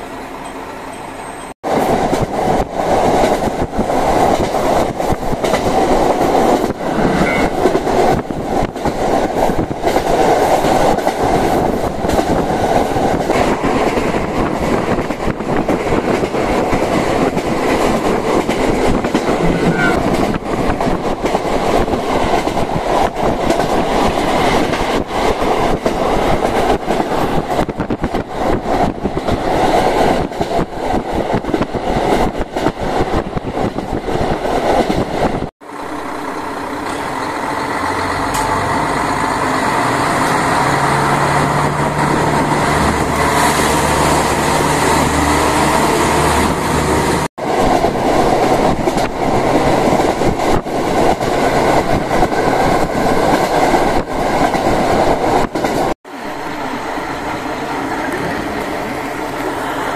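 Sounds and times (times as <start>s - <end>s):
railcar engine and rolling noise: 0.0s - 59.9s.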